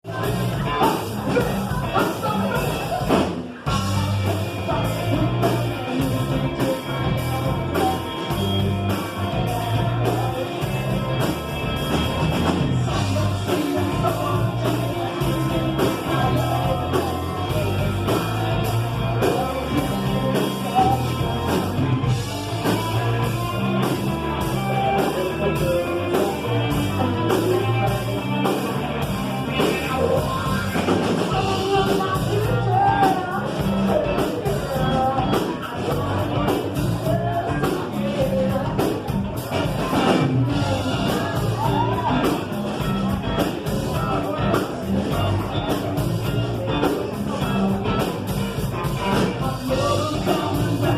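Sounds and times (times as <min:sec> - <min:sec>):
rock song with singing: 0:00.0 - 0:50.9.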